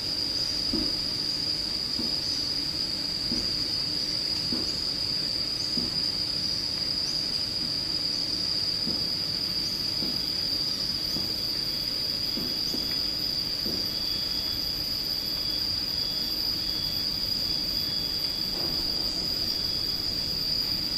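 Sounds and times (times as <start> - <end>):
insects droning: 0.0 - 20.9.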